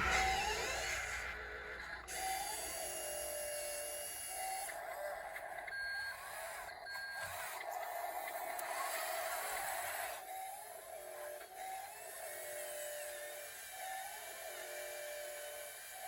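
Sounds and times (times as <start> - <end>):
small electric motors whining: 0.0 - 16.0.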